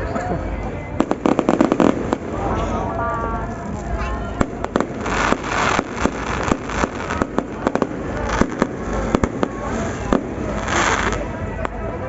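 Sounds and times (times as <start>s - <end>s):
crackling hiss: 1.0s - 11.8s
fireworks banging and popping: 1.0s - 11.9s.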